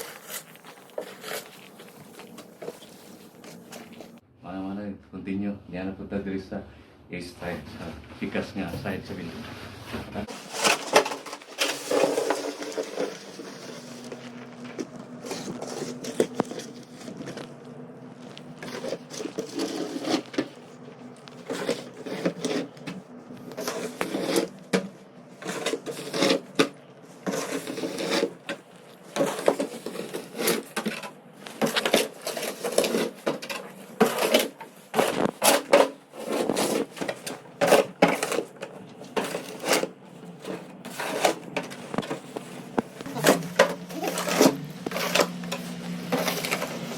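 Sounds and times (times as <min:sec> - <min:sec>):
snow shovel scraping pavement: 0:00.0 - 0:04.2, 0:08.8 - 0:46.9
steady low hum: 0:00.0 - 0:46.9.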